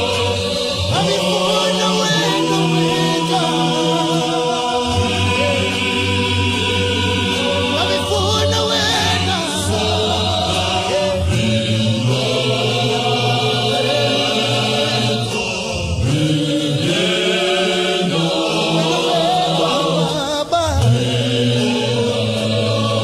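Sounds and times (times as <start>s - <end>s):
choir singing a hymn: 0.0s - 23.0s.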